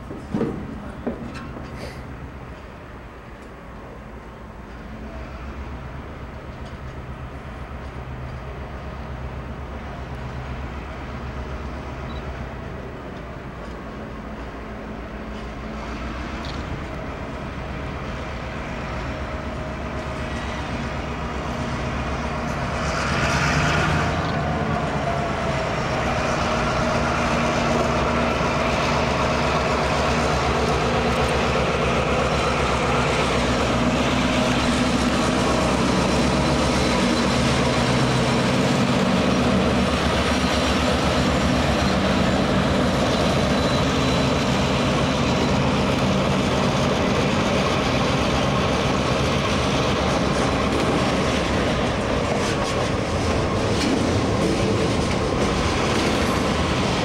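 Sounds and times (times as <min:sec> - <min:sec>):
diesel locomotive engines: 0:00.0 - 0:57.0.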